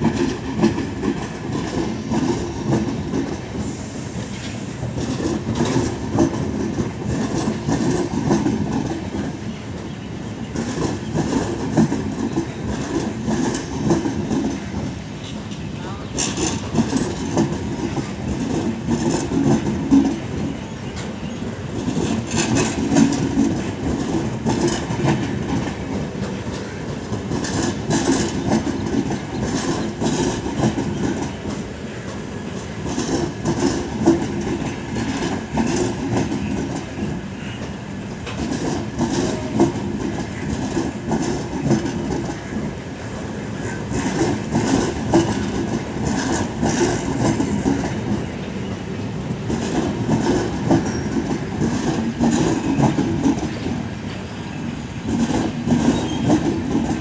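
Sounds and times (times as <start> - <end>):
train wheels rumbling: 0.0 - 57.0
wheels clacking over rail joints: 0.0 - 57.0.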